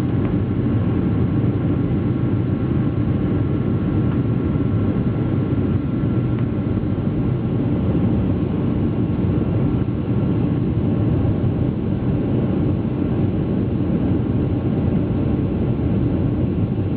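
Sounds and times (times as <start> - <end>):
jet engines low rumble: 0.0 - 16.9.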